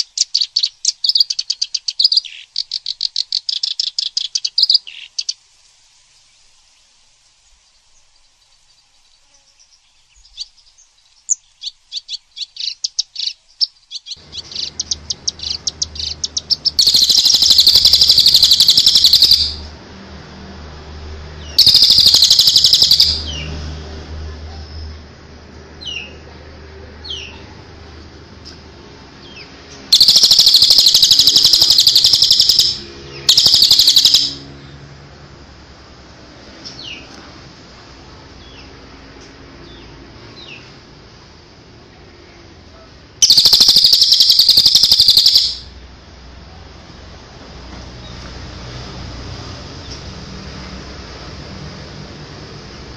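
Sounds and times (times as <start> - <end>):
songbird singing: 0.0 - 20.1, 20.9 - 35.2, 36.4 - 46.9, 49.4 - 50.6.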